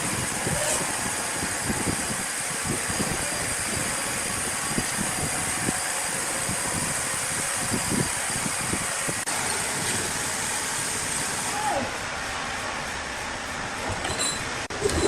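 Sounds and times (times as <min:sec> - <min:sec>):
sawmill machinery hiss: 0:00.0 - 0:13.9.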